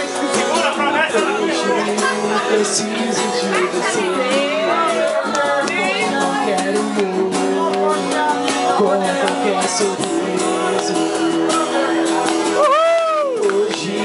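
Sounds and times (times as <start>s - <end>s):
acoustic guitar strummed: 0.0s - 14.0s
cajon hand-percussion beat: 0.0s - 14.0s
man singing: 0.0s - 14.0s.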